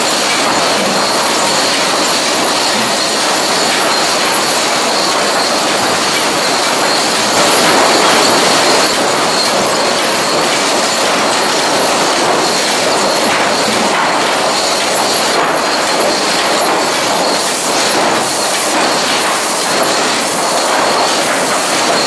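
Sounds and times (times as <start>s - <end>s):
mechanical clatter of conveyor: 0.0s - 22.0s.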